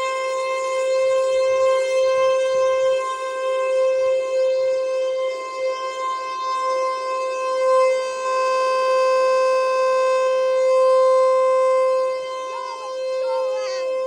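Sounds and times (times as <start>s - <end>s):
warning siren steady tone: 0.0s - 14.0s.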